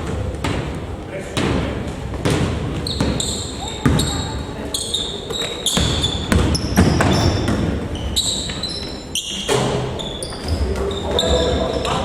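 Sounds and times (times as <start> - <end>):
sneakers squeaking on court: 1.4 - 12.0.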